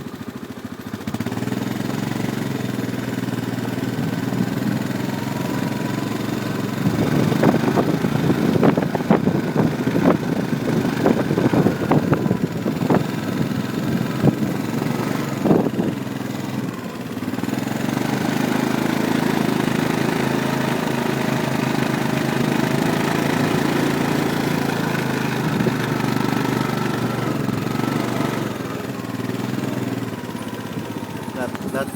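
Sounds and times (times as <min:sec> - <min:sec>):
atv engine running: 0:00.0 - 0:31.9.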